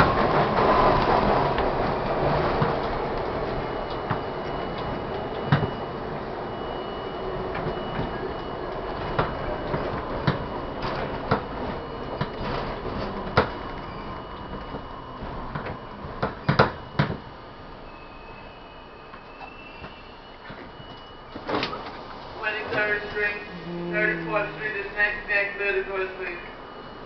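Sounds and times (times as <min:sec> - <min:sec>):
subway train rumble: 0:00.0 - 0:27.0.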